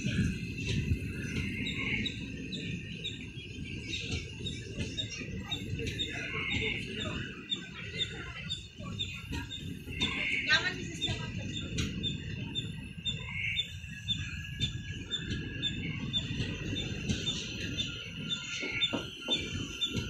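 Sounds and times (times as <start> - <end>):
bird chirping: 0.0 - 20.0
train coaches rumbling past: 0.0 - 20.0.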